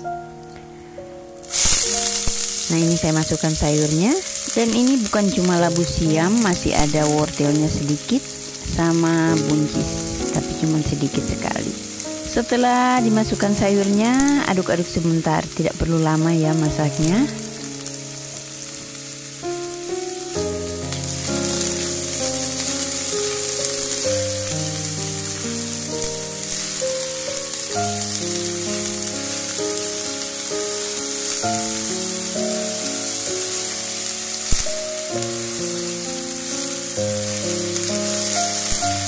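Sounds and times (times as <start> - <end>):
background music with melody: 0.0 - 39.0
vegetables sizzling in oil: 1.3 - 39.0.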